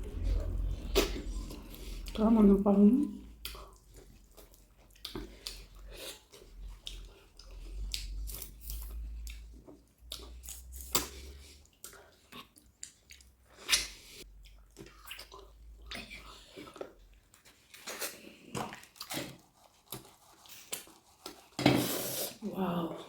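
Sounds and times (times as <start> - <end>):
person chewing food: 0.0 - 2.2, 3.1 - 22.4.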